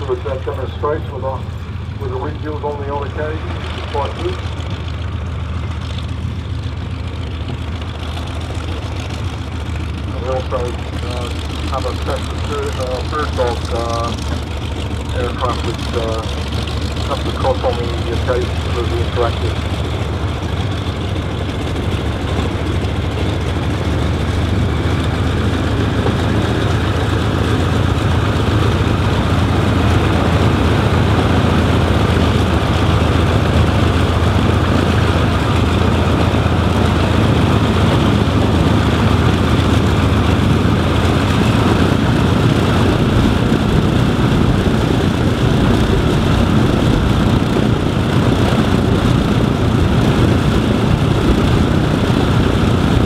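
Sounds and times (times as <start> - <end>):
propeller plane engine rumbling: 0.0 - 53.0.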